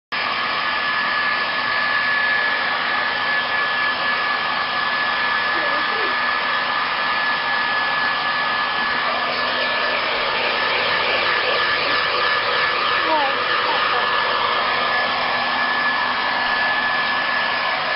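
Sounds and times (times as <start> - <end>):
hair dryer running: 0.2 - 17.9.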